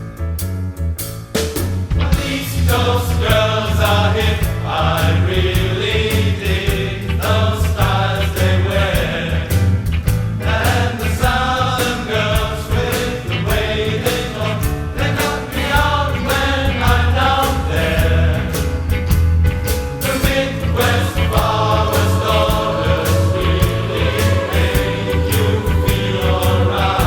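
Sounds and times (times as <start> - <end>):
accompaniment with steady beat: 1.0 - 27.0
large choir singing in harmony: 2.0 - 19.0, 20.0 - 27.0.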